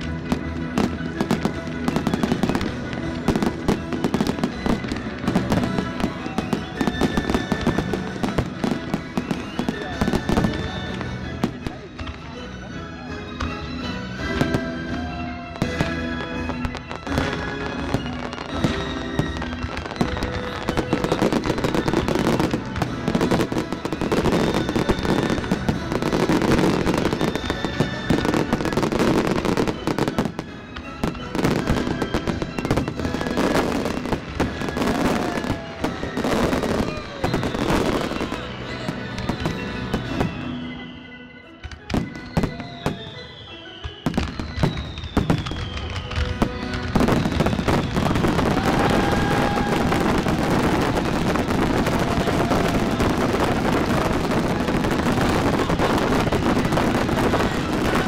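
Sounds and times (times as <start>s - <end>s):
fireworks bursting: 0.0s - 12.4s, 13.4s - 58.0s
music soundtrack: 0.0s - 58.0s.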